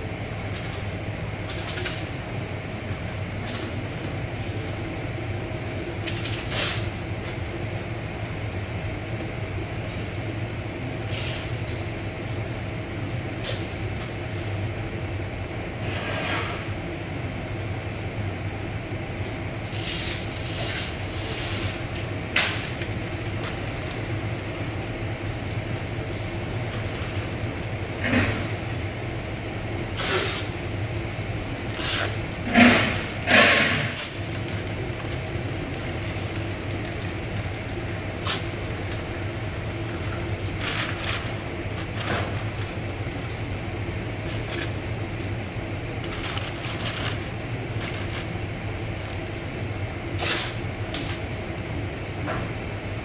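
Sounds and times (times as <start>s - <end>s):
low hum of ventilation: 0.0s - 53.0s.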